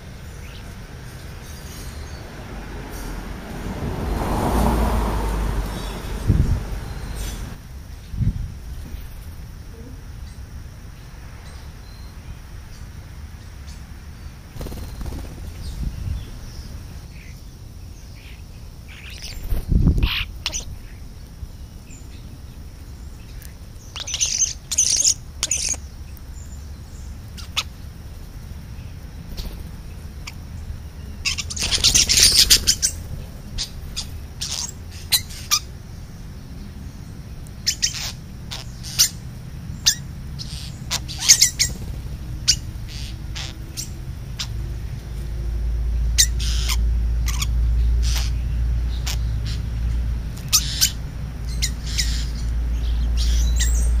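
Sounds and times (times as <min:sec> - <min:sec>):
starlings chirping and squawking: 0:00.0 - 0:09.5, 0:10.2 - 0:54.0.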